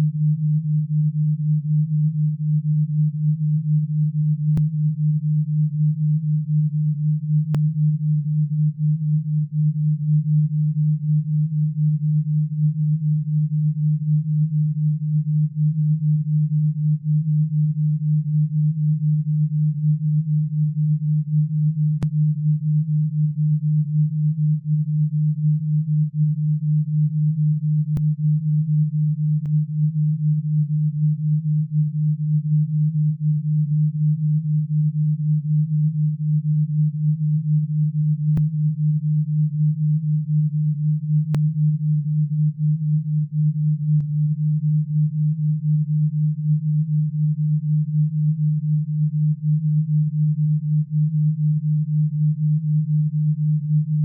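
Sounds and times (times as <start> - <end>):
low pulsing pure tone: 0.0 - 54.0.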